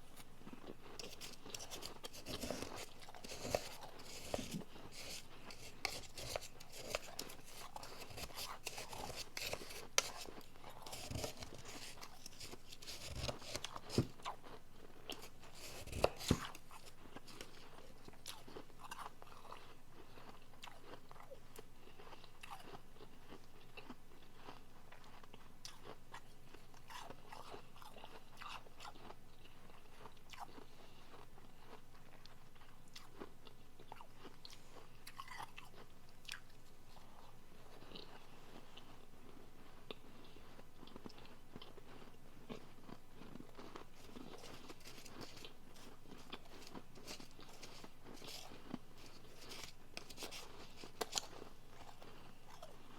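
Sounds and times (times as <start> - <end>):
chewing crunchy ice: 0.0 - 52.9.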